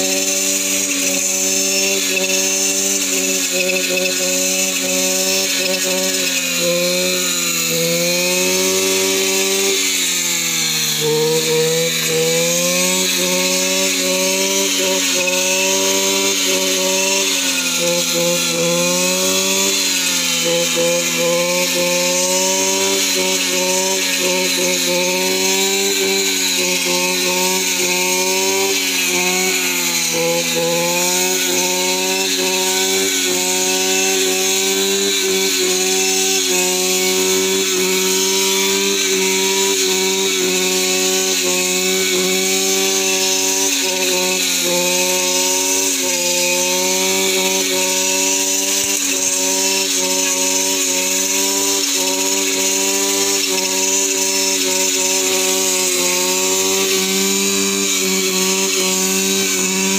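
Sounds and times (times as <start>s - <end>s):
brush cutter engine cutting grass: 0.0s - 59.9s.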